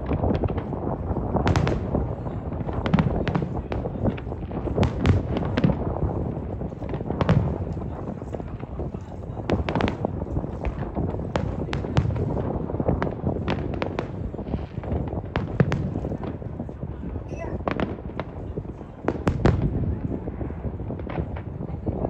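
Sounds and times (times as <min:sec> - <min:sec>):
fireworks booming and cracking: 0:00.0 - 0:22.0.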